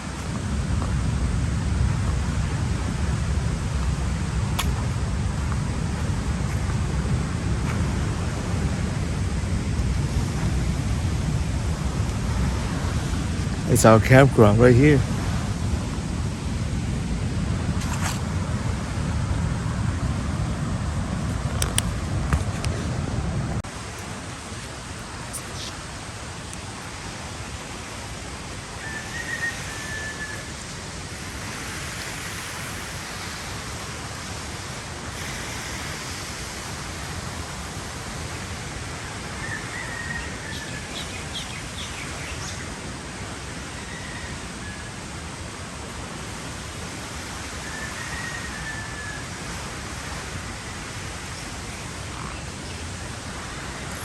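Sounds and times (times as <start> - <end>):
wind buffeting microphone: 0.0 - 43.8
steady outdoor hiss: 0.0 - 54.0.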